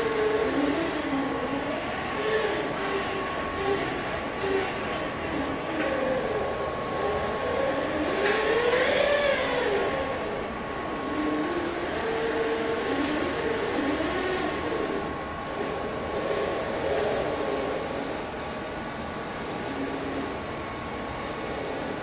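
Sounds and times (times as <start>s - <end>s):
robot drive motors whining: 0.0s - 17.8s
high-pitched hum: 0.0s - 22.0s.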